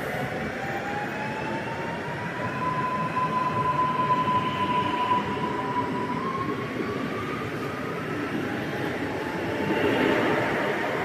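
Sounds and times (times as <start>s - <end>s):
electric train whine: 0.0s - 11.0s
wheels rumbling on rail: 2.1s - 11.0s.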